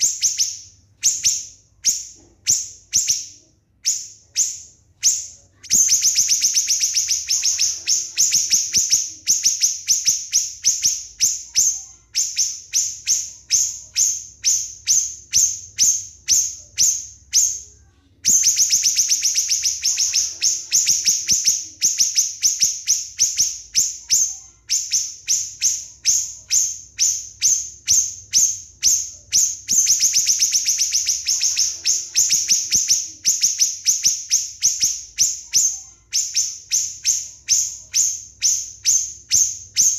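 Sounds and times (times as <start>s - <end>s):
songbirds rapid high chirps: 0.0s - 39.9s.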